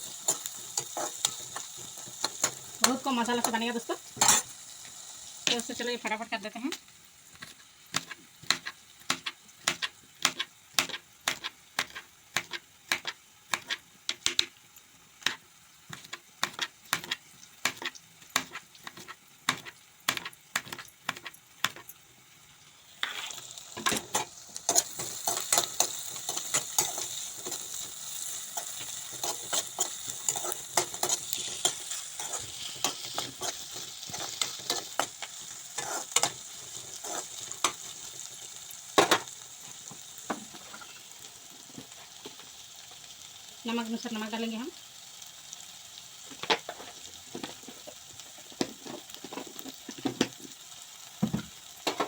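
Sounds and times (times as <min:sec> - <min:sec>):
food sizzling in hot oil: 0:00.0 - 0:52.0.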